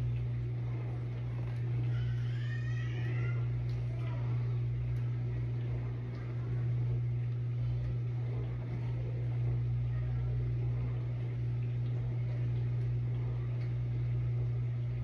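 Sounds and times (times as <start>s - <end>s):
vent fan humming: 0.0s - 15.0s.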